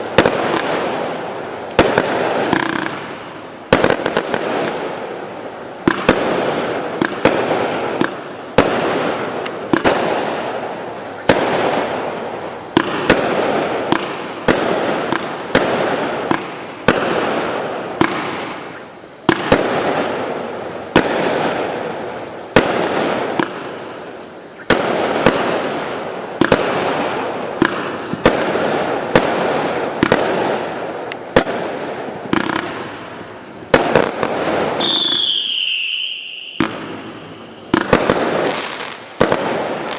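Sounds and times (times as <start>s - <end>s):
shells bursting overhead: 5.9s - 39.9s.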